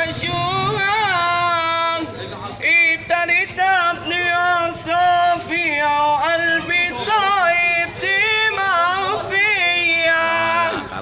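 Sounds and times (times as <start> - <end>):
man singing melismatic vocals: 0.0 - 11.0.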